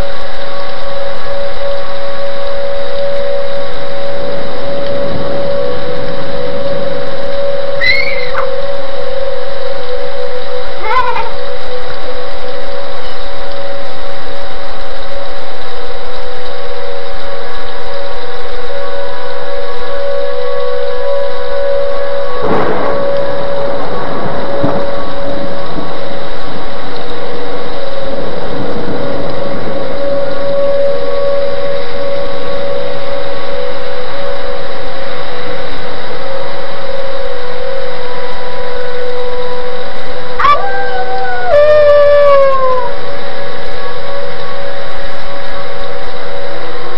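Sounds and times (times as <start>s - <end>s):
heavy rain: 0.0s - 46.9s
warning siren steady tone: 0.0s - 46.9s
wind: 0.0s - 46.9s.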